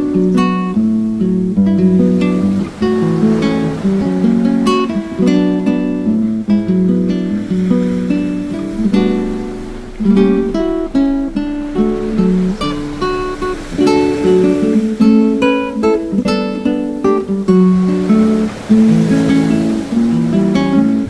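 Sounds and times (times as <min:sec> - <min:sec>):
acoustic guitar melody: 0:00.0 - 0:21.0.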